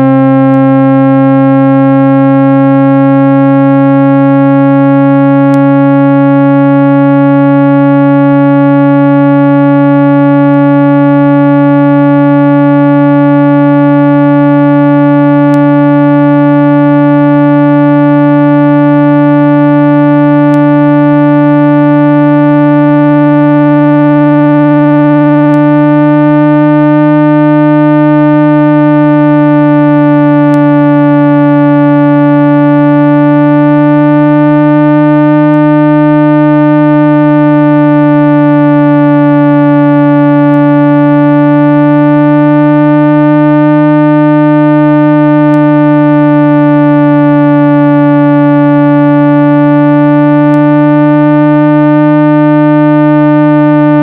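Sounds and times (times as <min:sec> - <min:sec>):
low synthesized tone: 0:00.0 - 0:54.0.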